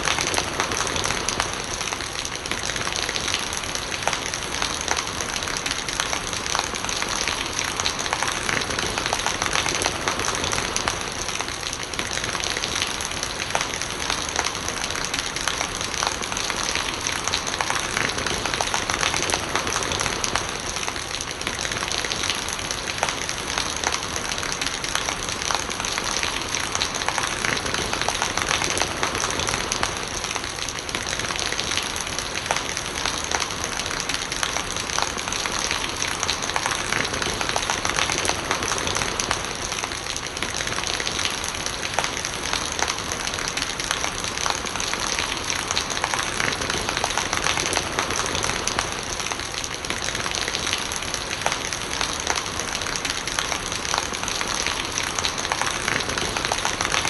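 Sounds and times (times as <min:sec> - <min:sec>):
close raindrops: 0:00.0 - 0:57.0
rain falling: 0:00.0 - 0:57.0.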